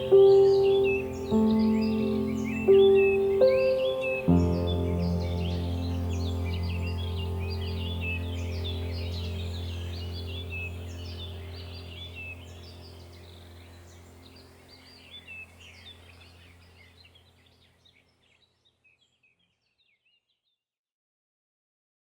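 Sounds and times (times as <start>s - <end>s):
steady low hum: 0.0s - 18.2s
birds chirping and singing: 0.0s - 20.2s.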